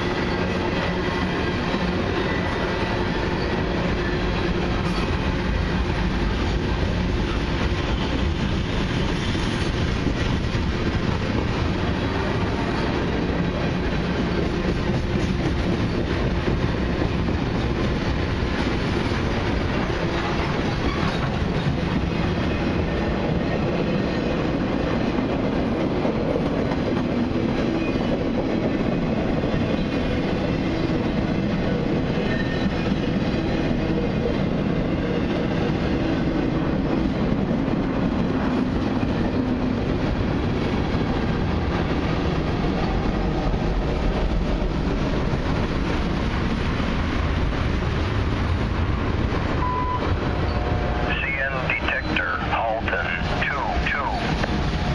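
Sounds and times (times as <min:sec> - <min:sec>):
freight train rolling past: 0:00.0 - 0:54.9.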